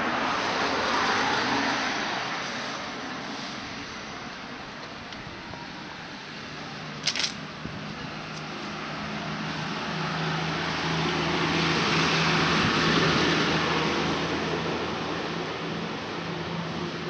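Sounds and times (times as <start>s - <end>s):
vehicle passing on street: 0.0s - 17.0s.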